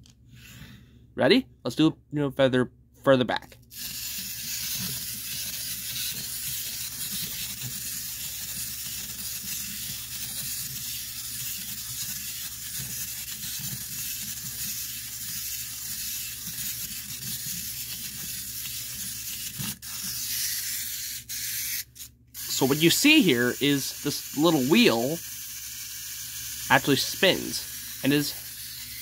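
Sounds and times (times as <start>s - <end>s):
wind-up toy motor whirring: 3.7s - 29.0s.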